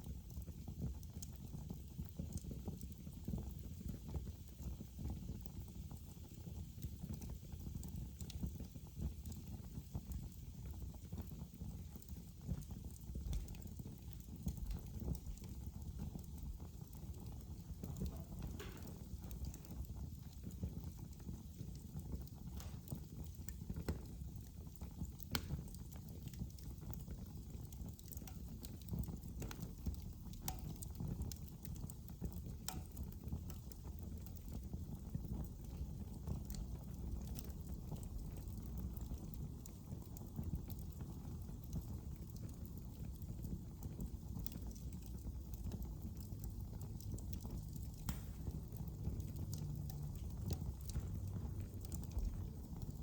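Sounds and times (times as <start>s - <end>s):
wood fire crackling in fireplace: 0.0s - 53.0s.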